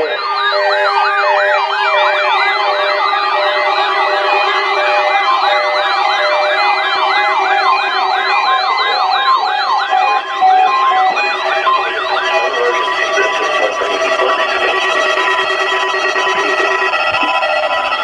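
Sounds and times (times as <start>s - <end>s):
electronic yelp siren: 0.0s - 18.0s.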